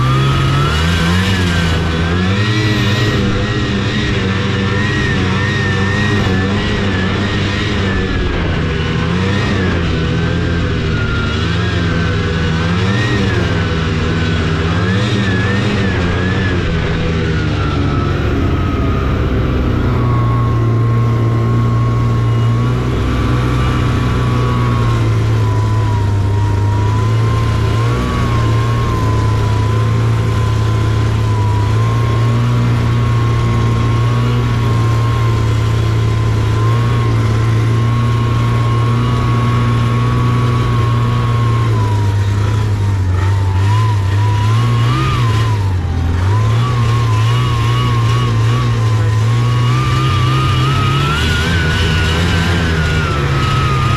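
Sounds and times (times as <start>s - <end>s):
snowmobile engine running: 0.0s - 53.9s
thin whine: 0.0s - 53.9s.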